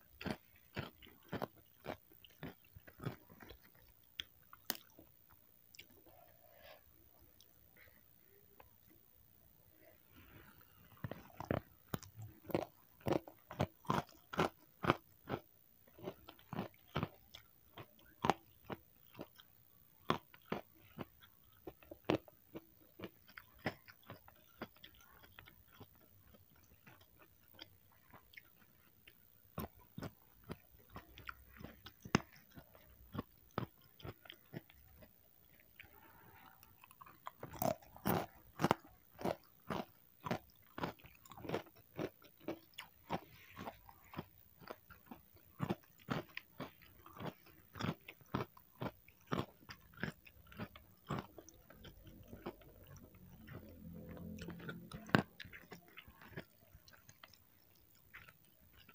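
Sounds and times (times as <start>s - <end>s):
moist chewing clicks: 11.0s - 58.9s.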